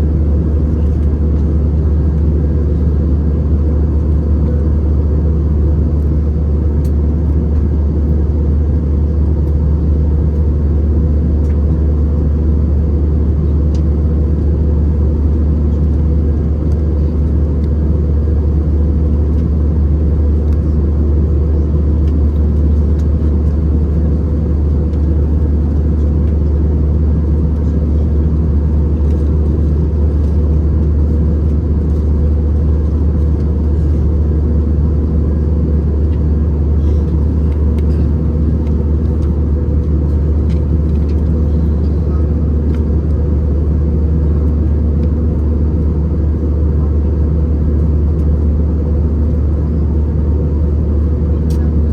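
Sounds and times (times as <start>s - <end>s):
jet engine cabin drone: 0.0s - 51.9s.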